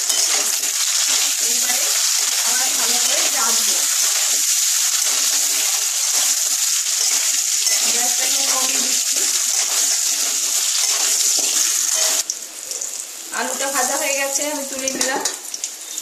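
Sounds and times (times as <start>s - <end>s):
spatula turning food in pan: 0.0s - 13.0s
potatoes sizzling in hot oil: 0.0s - 16.0s.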